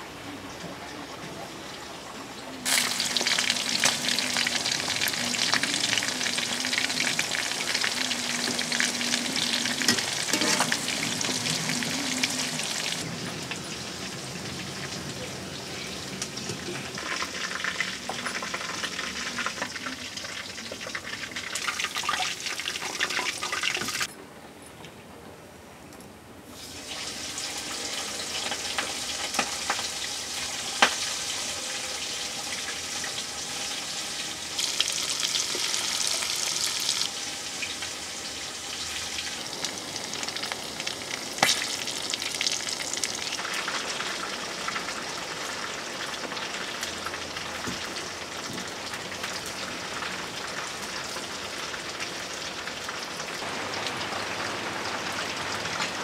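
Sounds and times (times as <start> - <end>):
chicken deep-frying in oil: 0.0 - 24.1, 26.5 - 56.0.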